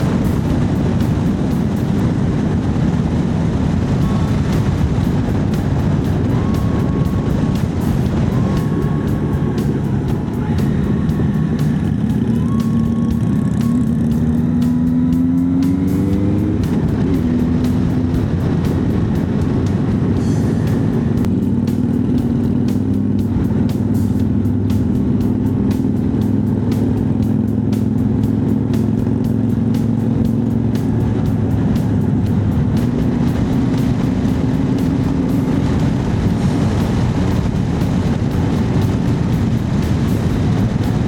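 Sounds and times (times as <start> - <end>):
motorcycle engine cruising: 0.0 - 41.0
wind rush: 0.0 - 41.0.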